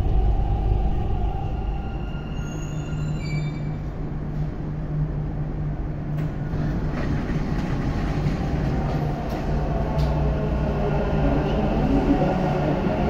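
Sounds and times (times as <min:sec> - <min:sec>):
train electric hum and rumble: 0:00.0 - 0:13.0.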